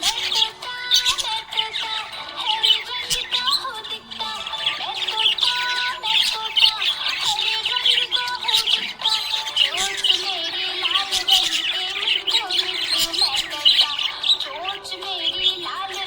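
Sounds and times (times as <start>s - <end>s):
budgerigar chirping and warbling: 0.0s - 16.0s.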